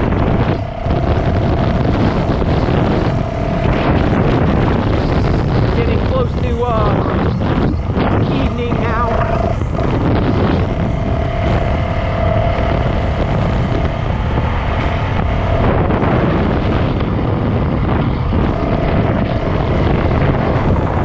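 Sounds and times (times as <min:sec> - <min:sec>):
dirt bike engine running: 0:00.0 - 0:21.0
wind noise on microphone: 0:00.0 - 0:21.0.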